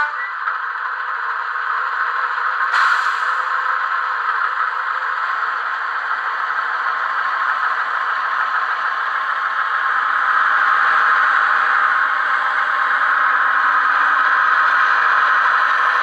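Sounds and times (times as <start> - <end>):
simulated diesel engine through small speaker: 0.0 - 16.0.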